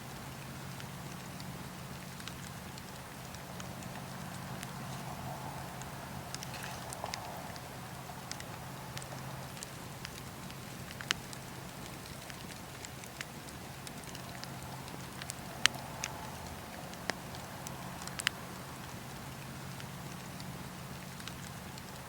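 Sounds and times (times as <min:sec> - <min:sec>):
campfire hiss and rumble: 0:00.0 - 0:22.0
fire crackles and pops: 0:00.0 - 0:22.0.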